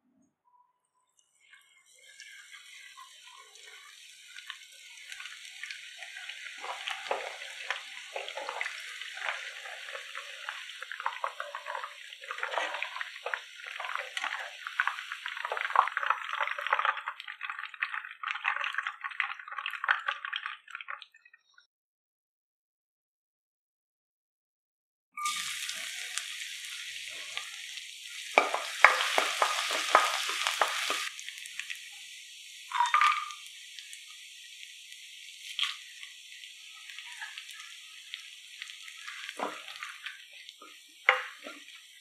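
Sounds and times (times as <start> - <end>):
chicken deep-frying with crackling: 1.1 - 21.6, 25.2 - 42.0.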